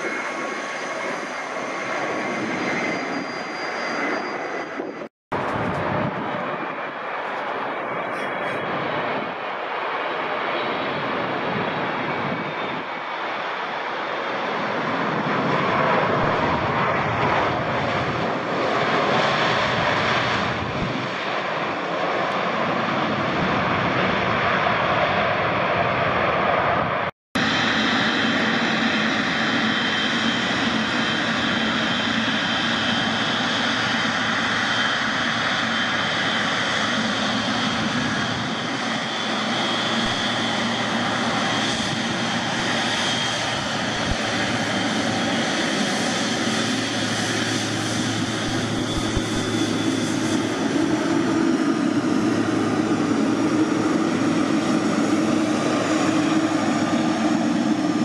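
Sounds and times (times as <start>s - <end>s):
continuous rushing roar: 0.0s - 58.0s
jet engines whining: 0.0s - 58.0s.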